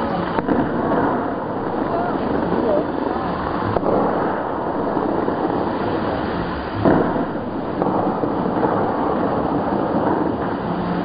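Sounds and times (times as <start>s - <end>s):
fountain water jets rushing: 0.0s - 11.0s.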